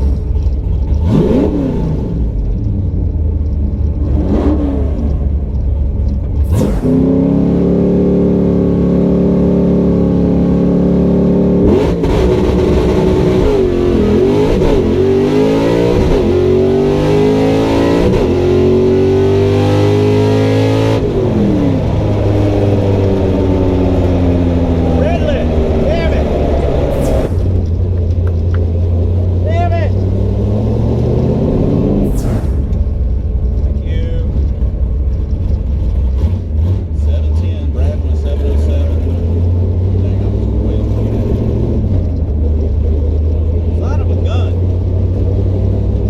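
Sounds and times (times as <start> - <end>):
drag racing car engines revving: 0.0 - 46.0.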